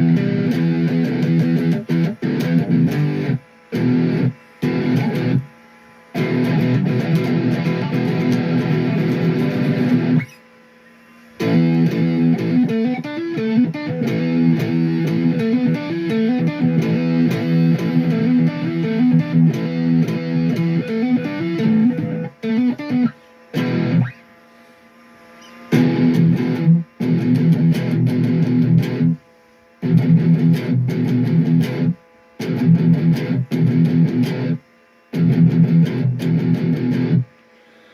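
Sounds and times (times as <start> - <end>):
distorted electric guitar: 0.0 - 24.4, 25.2 - 37.9.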